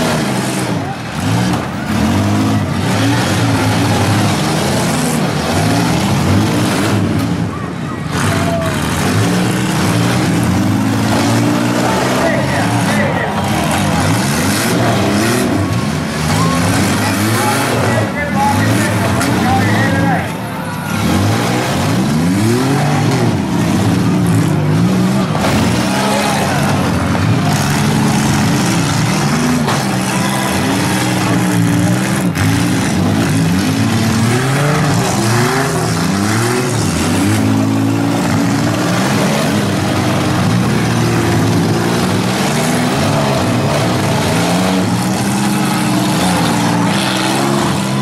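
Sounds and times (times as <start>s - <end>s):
minivan engines revving: 0.0s - 48.0s.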